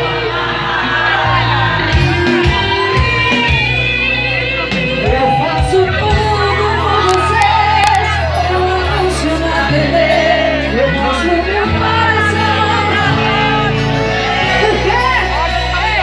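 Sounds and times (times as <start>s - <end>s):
audience shouting: 0.0s - 16.0s
live band with singer: 0.0s - 16.0s.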